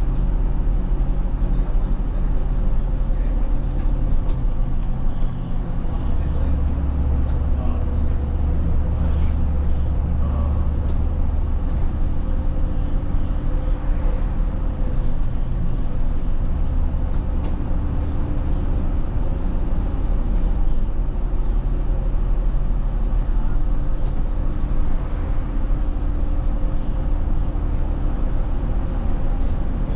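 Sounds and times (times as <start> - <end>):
bus engine drone: 0.0 - 29.9
road noise: 0.0 - 29.9.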